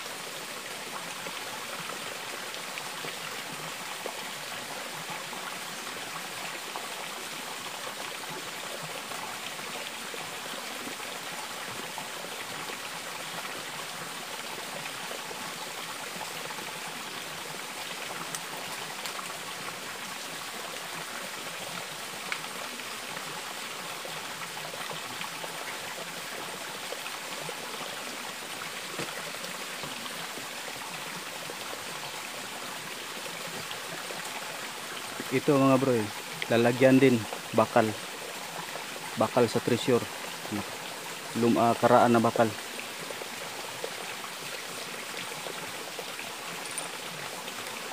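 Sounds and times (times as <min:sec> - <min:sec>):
water running over rocks: 0:00.0 - 0:47.9.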